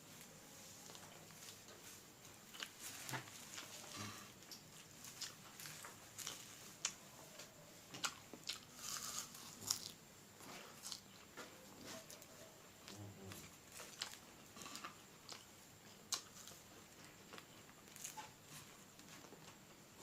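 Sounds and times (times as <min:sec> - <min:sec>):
chewing and biting food: 0:02.4 - 0:11.3, 0:11.9 - 0:19.4.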